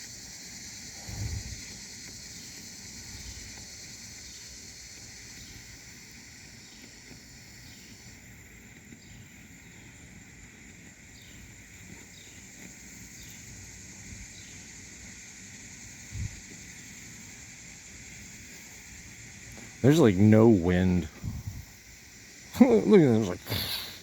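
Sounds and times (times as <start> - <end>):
insects trilling: 0.0 - 24.0
short insect chirps: 0.0 - 24.0.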